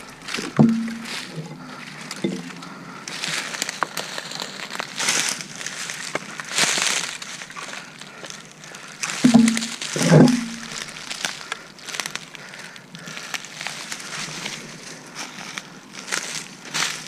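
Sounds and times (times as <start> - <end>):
dry brush crackling underfoot: 0.0 - 17.0.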